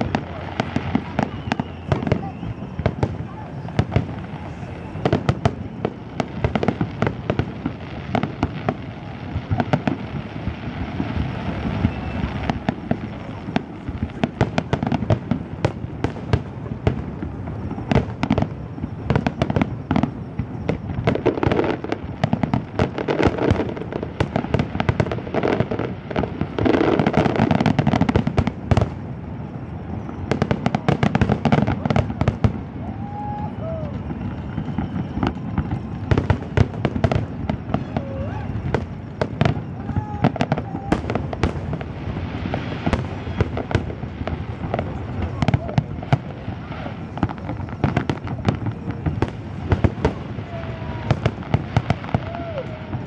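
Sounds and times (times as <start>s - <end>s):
fireworks bursting: 0.0s - 53.0s.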